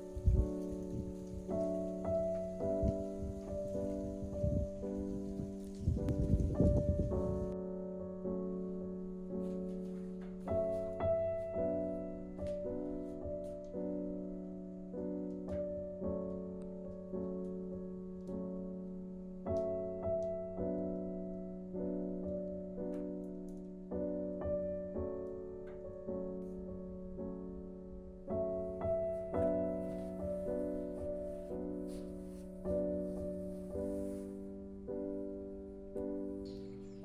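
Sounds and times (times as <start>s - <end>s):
gentle piano piece: 0.0s - 37.0s.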